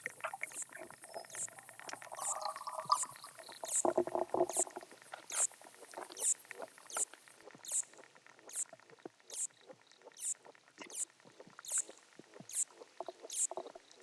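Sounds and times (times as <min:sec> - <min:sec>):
aquatic insects stridulating: 0:00.0 - 0:09.5, 0:10.2 - 0:13.7
rapid clicks with high chirps: 0:00.0 - 0:13.7.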